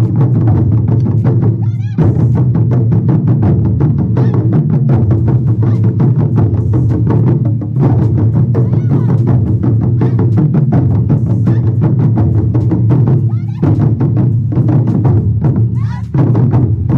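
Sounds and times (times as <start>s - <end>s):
rapid drumstick beats: 0.0s - 16.9s.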